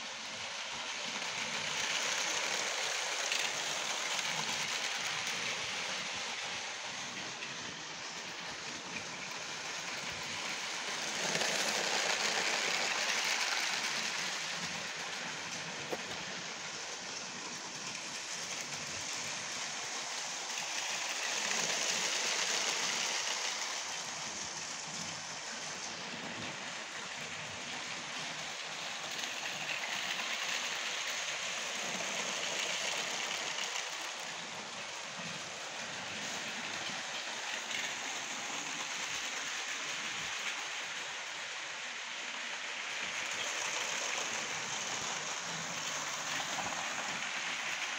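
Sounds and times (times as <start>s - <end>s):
toy train wheels rattling on track: 0.0s - 47.9s.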